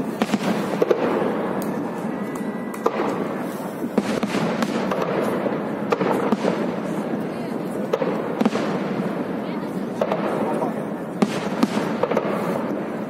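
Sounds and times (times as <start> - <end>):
fireworks bursting with sharp bangs: 0.0 - 13.0
fireworks crackling: 0.0 - 13.0.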